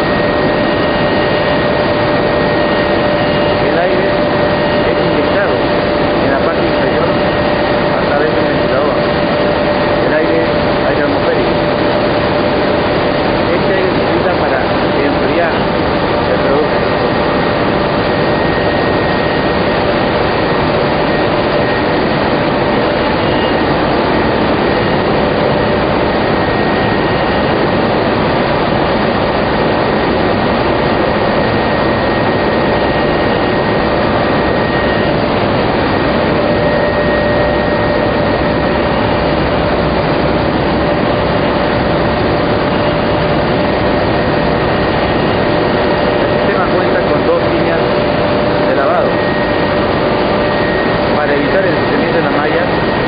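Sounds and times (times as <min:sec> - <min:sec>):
constant whining tones: 0:00.0 - 0:53.0
industrial machinery air rush: 0:00.0 - 0:53.0.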